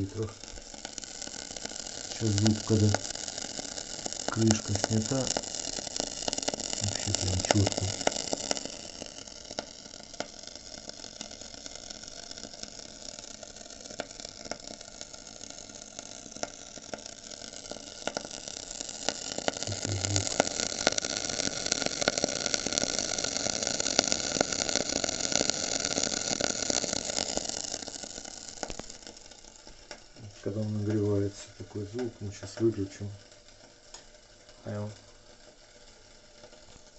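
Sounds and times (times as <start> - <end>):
water heater sizzling and crackling: 0.0 - 36.9.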